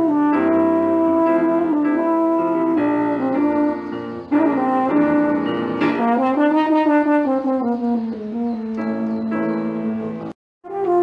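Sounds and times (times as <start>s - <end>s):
french horn melody: 0.0s - 11.0s.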